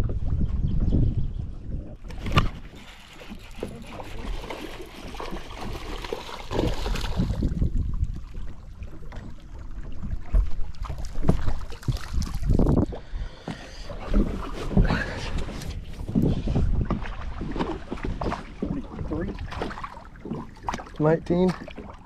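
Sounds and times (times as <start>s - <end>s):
wind buffeting microphone: 0.0s - 2.8s, 5.5s - 21.5s
water lapping against boat hull: 1.9s - 22.0s.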